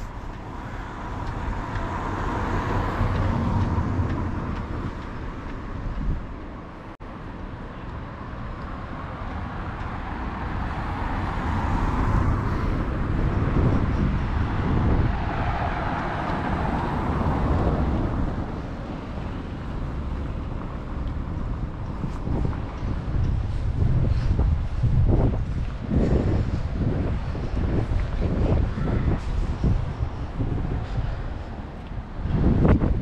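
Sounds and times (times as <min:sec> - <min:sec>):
steady low traffic rumble: 0:00.0 - 0:33.0.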